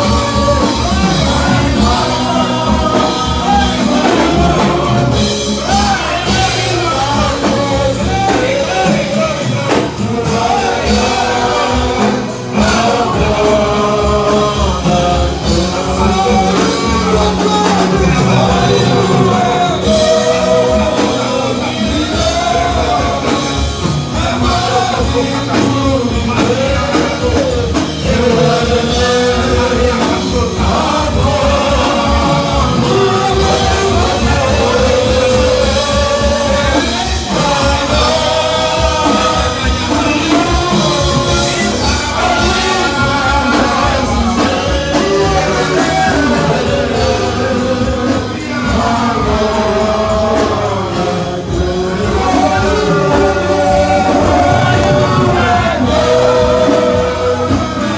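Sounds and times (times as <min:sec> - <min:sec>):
band accompaniment with bass: 0:00.0 - 0:57.9
voices singing: 0:00.0 - 0:57.9.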